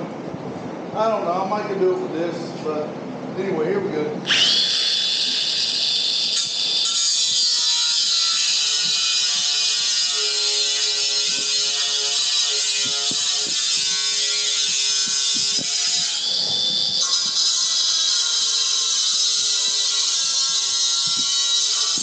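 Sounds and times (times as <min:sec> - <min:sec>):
angle grinder cutting metal: 0:04.2 - 0:22.0.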